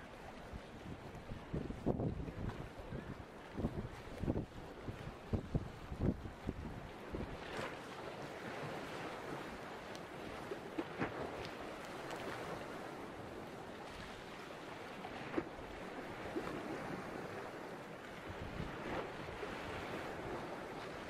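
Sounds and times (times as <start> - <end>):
sea water washing and lapping: 0.0 - 21.0.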